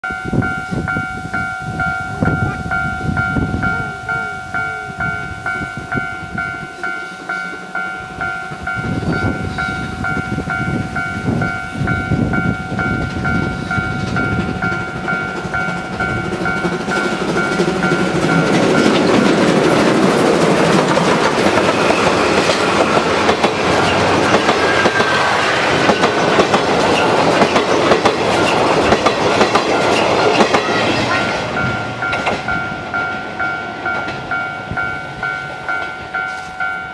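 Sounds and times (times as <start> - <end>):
level crossing warning bell: 0.0 - 36.9
train wheels clattering on rail joints: 6.5 - 36.9.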